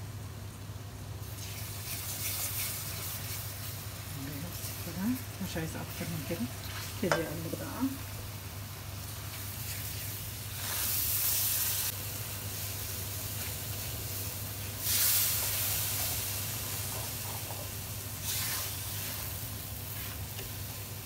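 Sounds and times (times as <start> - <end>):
cream sizzling in a frying pan: 0.0 - 21.0.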